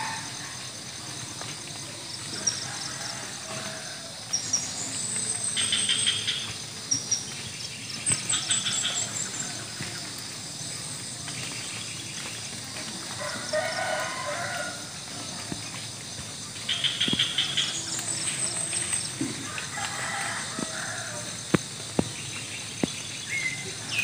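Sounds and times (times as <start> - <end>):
countryside background noise: 0.0 - 24.0.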